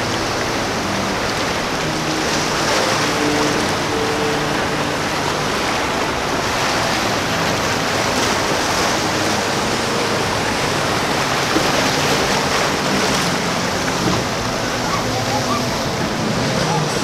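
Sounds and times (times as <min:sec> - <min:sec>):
churning breaking water: 0:00.0 - 0:17.0.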